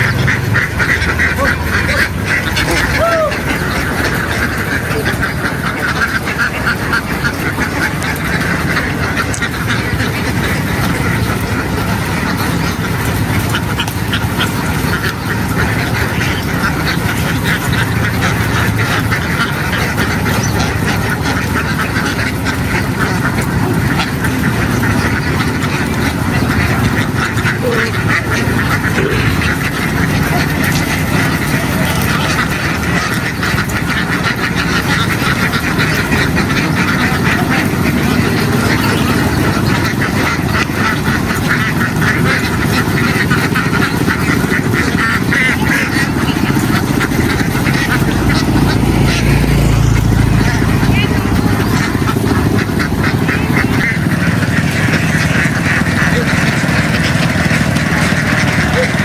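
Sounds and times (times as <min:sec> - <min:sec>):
ducks quacking: 0:00.0 - 0:59.0
low steady rumble: 0:00.0 - 0:59.0.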